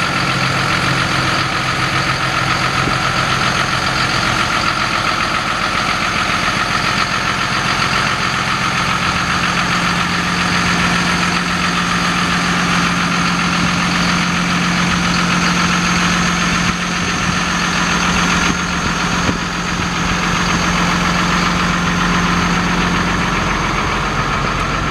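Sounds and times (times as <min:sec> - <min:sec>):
diesel truck engine idling: 0:00.0 - 0:24.9.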